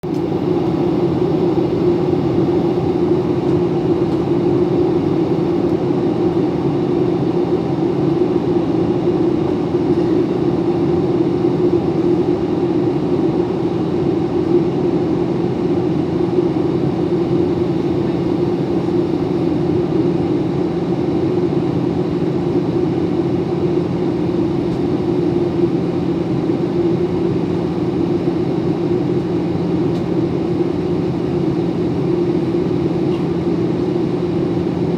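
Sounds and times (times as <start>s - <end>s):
airplane engine drone: 0.0s - 34.9s.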